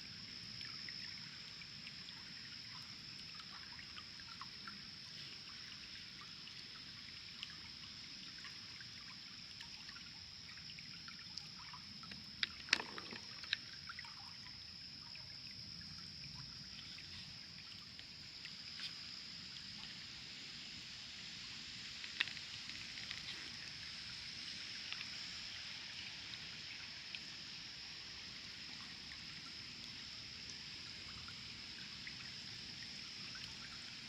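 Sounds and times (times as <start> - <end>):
creek water trickling over rocks: 0.0 - 34.0.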